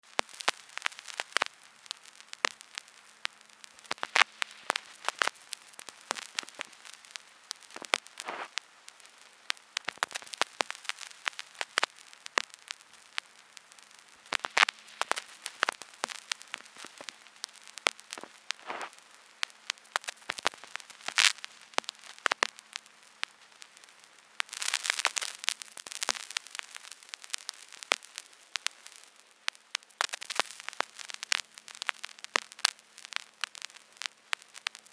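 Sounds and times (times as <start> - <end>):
faint hiss: 0.0 - 34.9
vinyl pops and clicks: 0.2 - 34.9.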